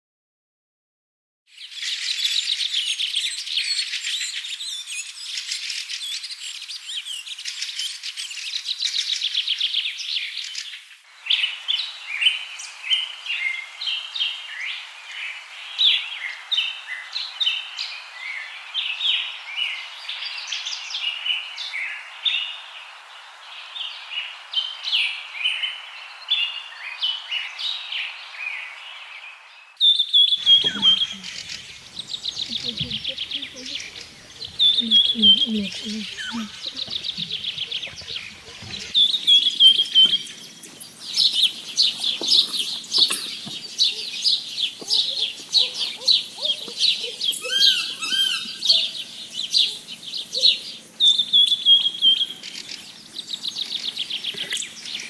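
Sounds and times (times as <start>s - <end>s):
wild birds chattering and chirping: 1.6s - 55.0s.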